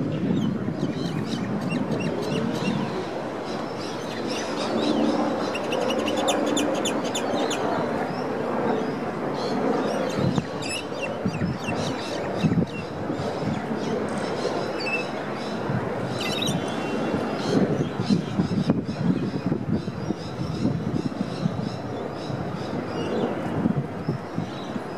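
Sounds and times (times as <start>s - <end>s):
distant traffic hum: 0.0s - 24.9s.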